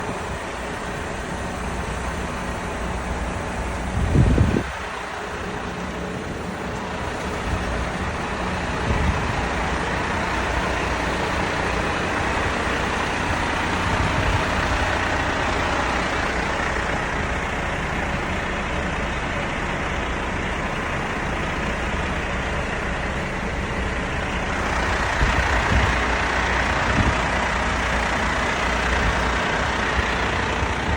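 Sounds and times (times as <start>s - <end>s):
dump truck engine rumbling: 0.0s - 30.9s.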